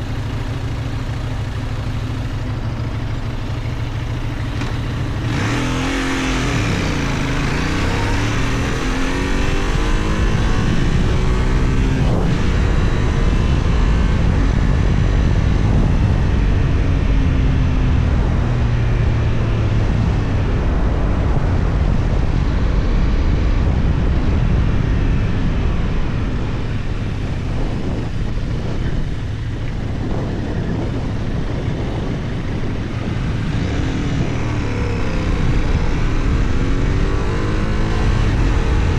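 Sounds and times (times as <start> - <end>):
motorcycle engine accelerating: 0.0 - 38.9
wind rush: 4.6 - 38.9.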